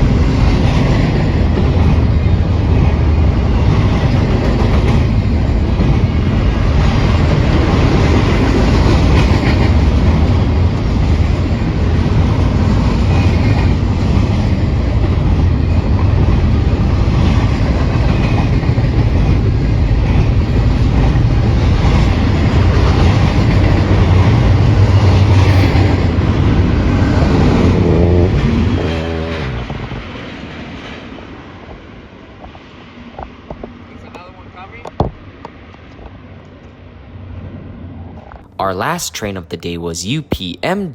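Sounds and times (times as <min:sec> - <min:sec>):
freight train rumbling: 0:00.0 - 0:36.4.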